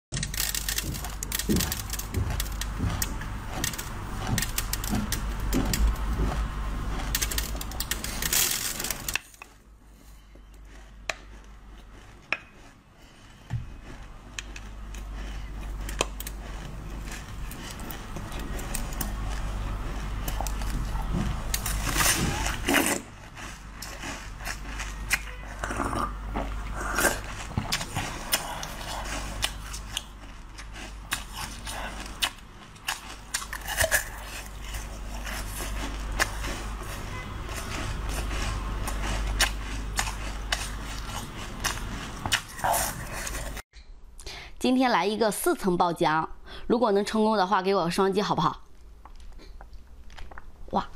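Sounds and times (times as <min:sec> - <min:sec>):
teeth crunching ice: 0:00.1 - 0:43.6
chewing with clicks: 0:00.2 - 0:43.6, 0:48.6 - 0:50.5.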